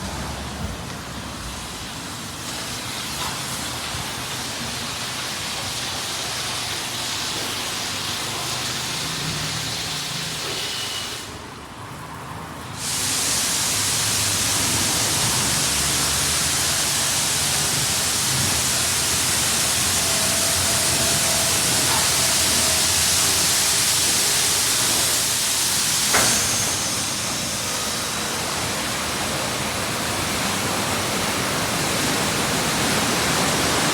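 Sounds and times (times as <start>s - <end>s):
car wash water spray hissing: 0.0s - 33.9s.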